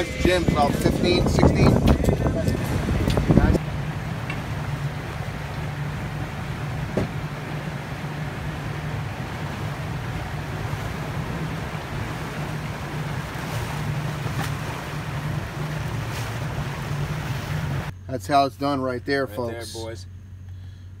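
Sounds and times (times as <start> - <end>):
water rushing over hull: 0.0 - 17.9
boat engine running: 0.0 - 21.0.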